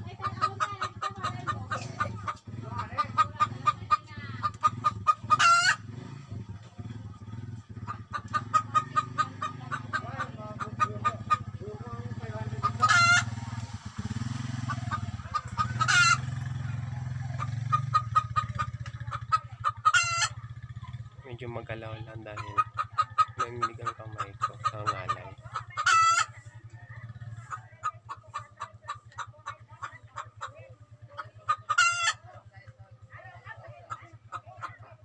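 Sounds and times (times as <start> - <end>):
hen clucking rapidly: 0.0 - 35.0.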